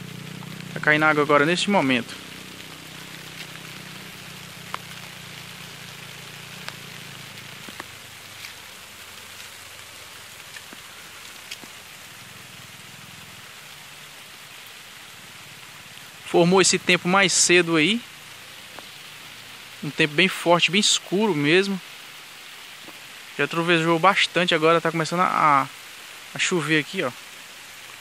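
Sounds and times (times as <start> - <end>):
raindrops ticking: 0.0 - 28.0
steady hiss of rain: 0.0 - 28.0.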